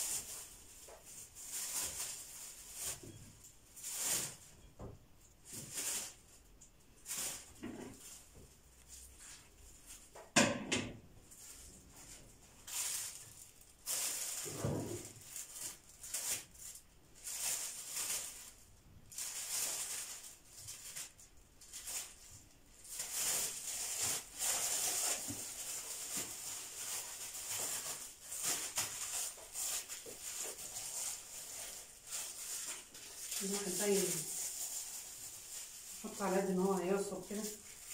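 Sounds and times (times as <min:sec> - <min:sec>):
plastic bags rustling: 0:00.0 - 0:10.3, 0:11.2 - 0:37.9.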